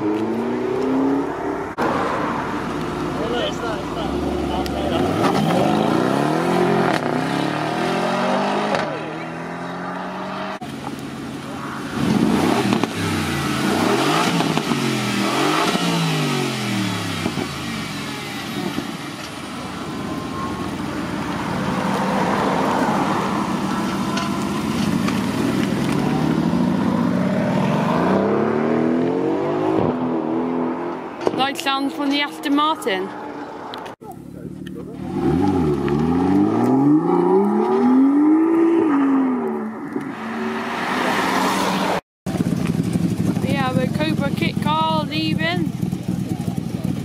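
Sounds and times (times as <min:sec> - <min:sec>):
car engines revving and accelerating: 0:00.0 - 0:47.0.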